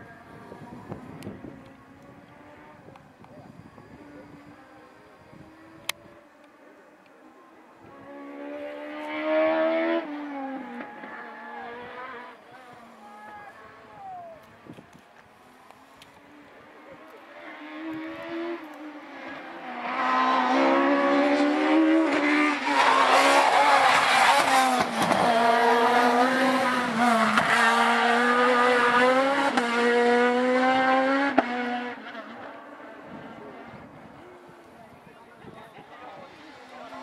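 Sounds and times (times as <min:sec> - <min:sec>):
rally car engine revving: 0:00.1 - 0:06.4, 0:07.8 - 0:13.1, 0:16.0 - 0:34.5.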